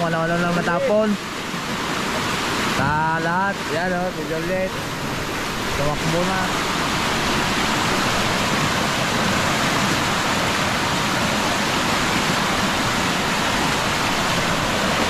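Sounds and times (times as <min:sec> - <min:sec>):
floodwater rushing down a creek: 0:00.0 - 0:15.0.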